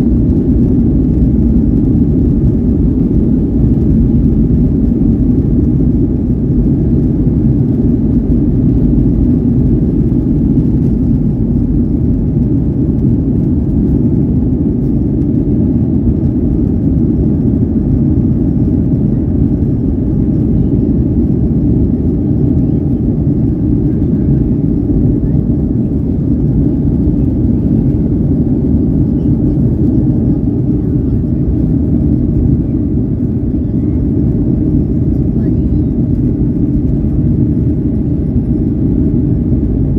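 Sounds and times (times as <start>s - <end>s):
jet engines deep rumble: 0.0s - 39.9s.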